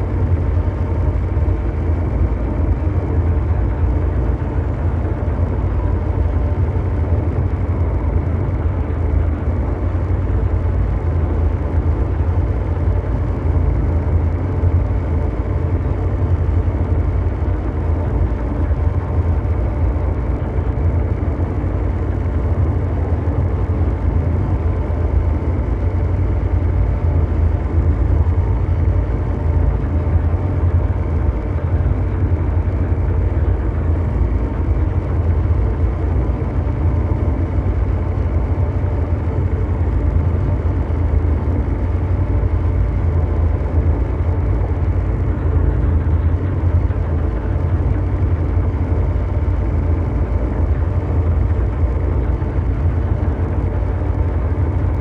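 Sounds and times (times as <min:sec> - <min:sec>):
deep mechanical rumble: 0:00.0 - 0:55.0
faint hum tones: 0:00.0 - 0:55.0.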